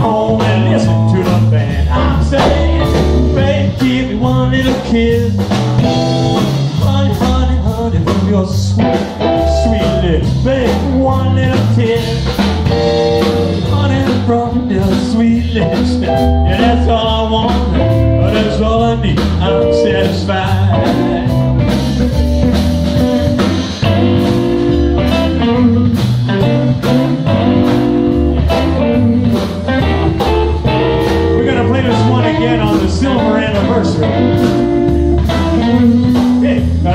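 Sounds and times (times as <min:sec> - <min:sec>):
drum kit steady beat: 0:00.0 - 0:36.9
electric guitars: 0:00.0 - 0:36.9.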